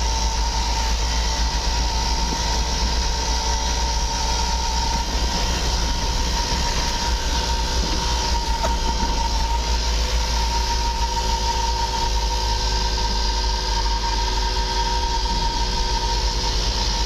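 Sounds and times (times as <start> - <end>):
constant whine: 0.0 - 17.0
vehicle road and engine noise: 0.0 - 17.0.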